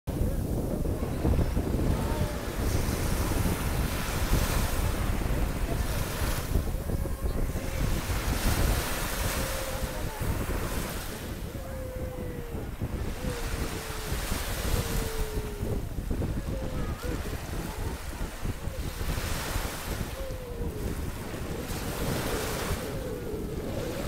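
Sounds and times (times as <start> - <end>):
waves breaking on shore: 0.1 - 24.0
wind on microphone: 0.1 - 24.0.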